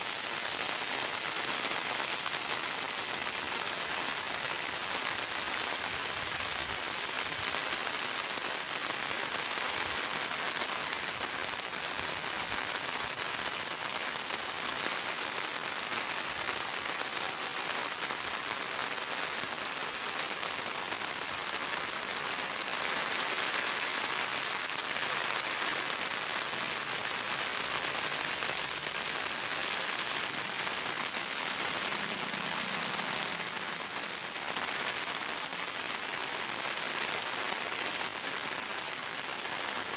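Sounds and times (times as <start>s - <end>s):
rain falling on wet ground: 0.0s - 39.9s.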